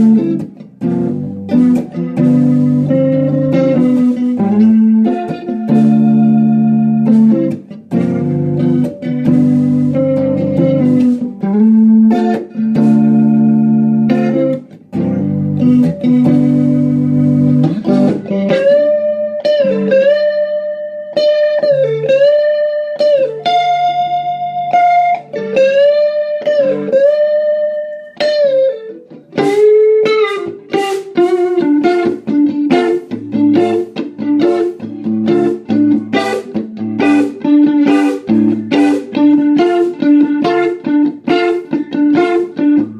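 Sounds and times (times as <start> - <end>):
electric guitar through rotary speaker: 0.0 - 42.9.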